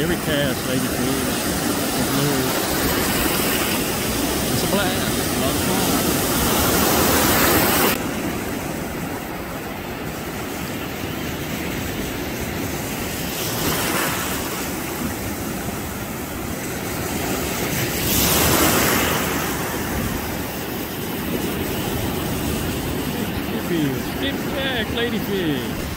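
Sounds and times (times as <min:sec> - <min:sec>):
surf breaking on beach: 0:00.0 - 0:25.9.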